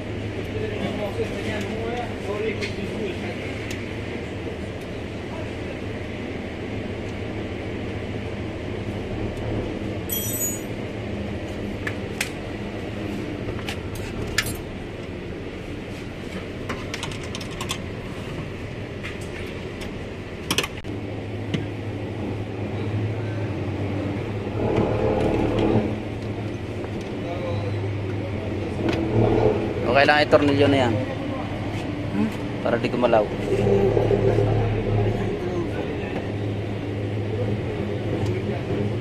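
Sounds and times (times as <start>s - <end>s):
steady workshop hum: 0.0s - 39.0s.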